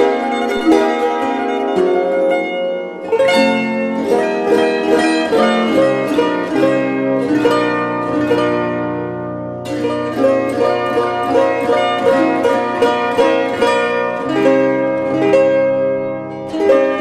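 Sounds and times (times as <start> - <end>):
plucked psaltery melody: 0.0 - 17.0.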